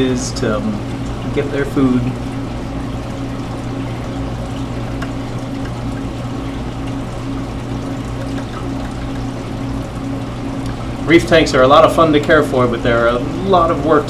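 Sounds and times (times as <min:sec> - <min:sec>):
low pump hum: 0:00.0 - 0:14.0
water pouring and trickling: 0:00.0 - 0:14.0.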